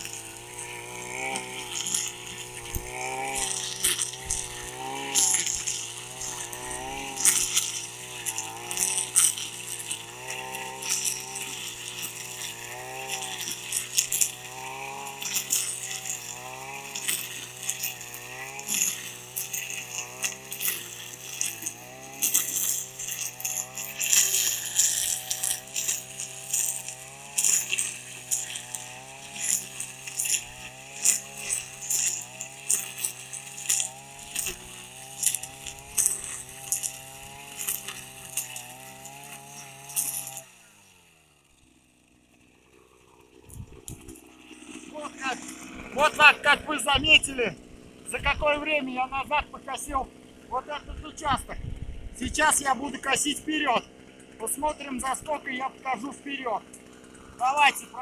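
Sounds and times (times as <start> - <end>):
brush cutter cutting grass: 0.0 - 58.0.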